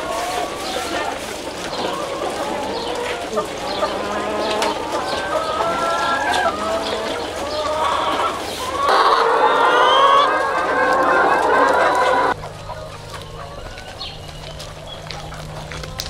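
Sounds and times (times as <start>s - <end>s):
hens clucking and cackling: 0.0s - 16.0s.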